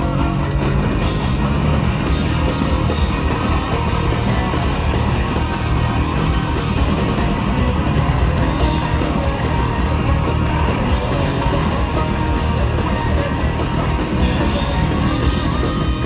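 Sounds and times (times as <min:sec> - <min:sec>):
singer's lead vocals: 0:00.0 - 0:07.4, 0:08.4 - 0:16.0
distorted electric guitars: 0:00.0 - 0:16.0
electric bass: 0:00.0 - 0:16.0
fast drum kit: 0:00.0 - 0:16.0.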